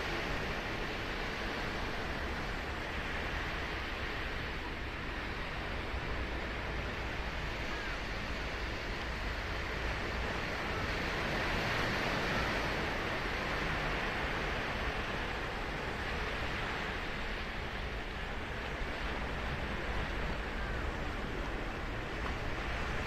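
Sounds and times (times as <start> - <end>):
waves breaking on a beach: 0.0 - 23.0.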